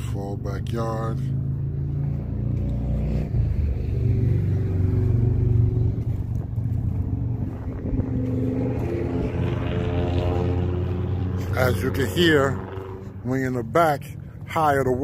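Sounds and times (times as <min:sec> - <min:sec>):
muffled road traffic drone: 0:00.0 - 0:15.0.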